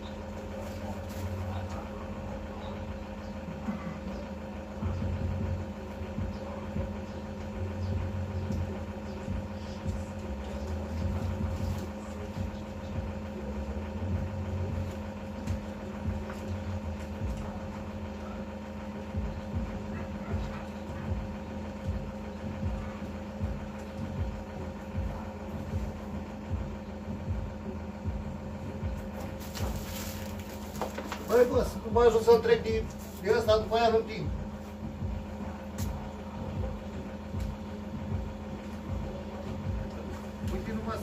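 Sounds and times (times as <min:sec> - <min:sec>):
van engine idling: 0:00.0 - 0:41.0.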